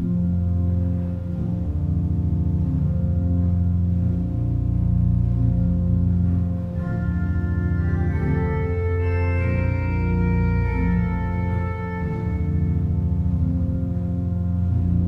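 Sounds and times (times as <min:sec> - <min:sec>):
organ playing chords: 0:00.0 - 0:15.0.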